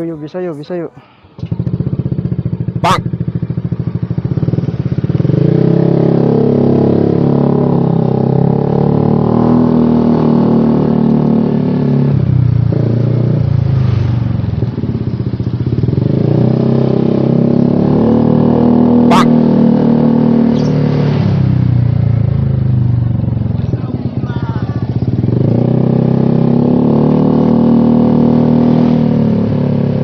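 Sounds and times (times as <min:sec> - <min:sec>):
motorcycle engine revving: 0:01.1 - 0:30.0.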